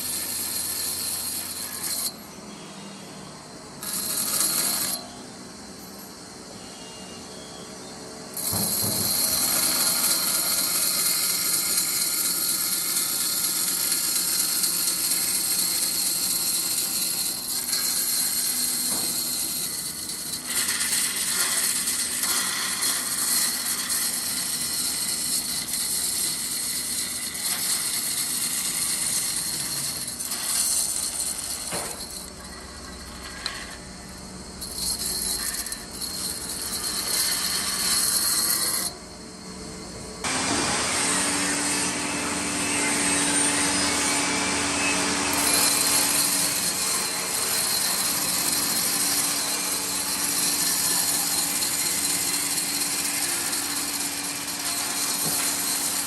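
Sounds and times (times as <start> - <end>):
power tool cutting wood: 0.0 - 2.1, 3.8 - 5.1, 8.4 - 33.8, 34.4 - 39.0, 40.2 - 56.0.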